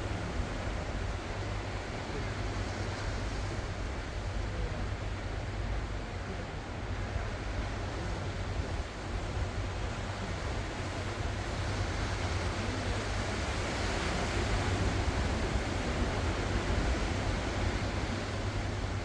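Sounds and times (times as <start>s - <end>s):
ocean surf washing ashore: 0.0s - 19.0s.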